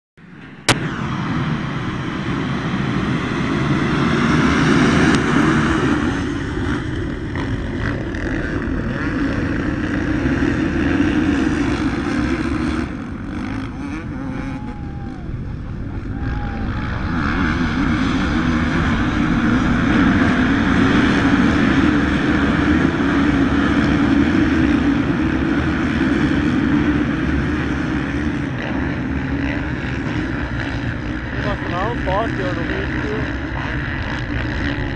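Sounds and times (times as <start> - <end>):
motocross bikes engine drone: 0.2 - 34.9.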